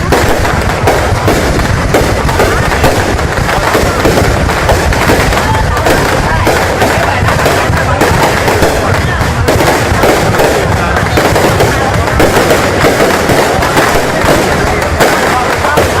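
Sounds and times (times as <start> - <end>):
fireworks crackling and banging: 0.0 - 16.0
murmur of crowd voices: 0.0 - 16.0.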